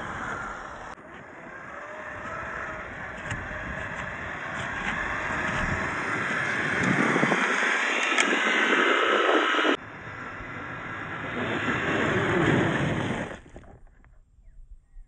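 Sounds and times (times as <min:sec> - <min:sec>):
rc car drivetrain and tyre noise: 0:00.0 - 0:14.1.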